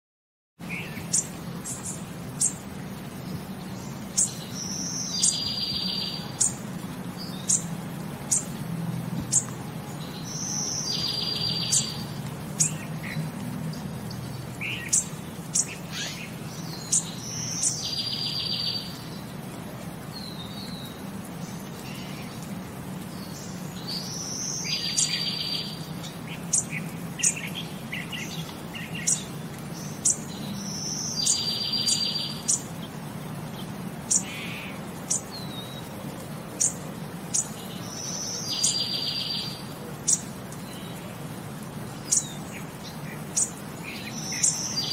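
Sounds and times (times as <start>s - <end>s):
songbirds chirping: 0.6s - 44.9s.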